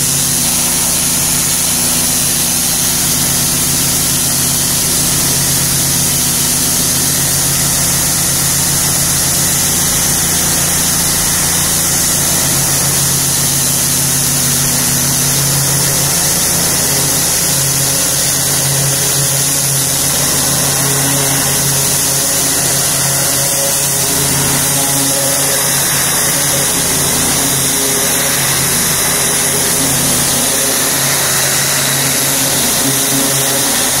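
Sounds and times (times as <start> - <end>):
high-pressure water jet hissing: 0.0 - 34.0
pressure washer pump motor: 0.0 - 34.0.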